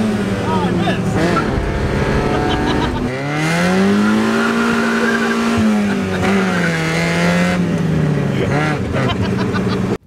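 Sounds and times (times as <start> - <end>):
kart engine running: 0.0 - 10.0.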